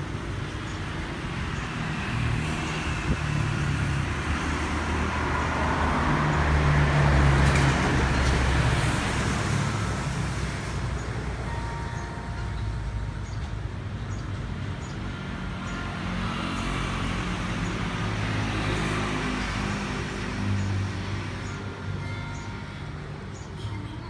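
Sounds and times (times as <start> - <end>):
vehicle passing by: 1.2 - 11.5, 12.6 - 23.6.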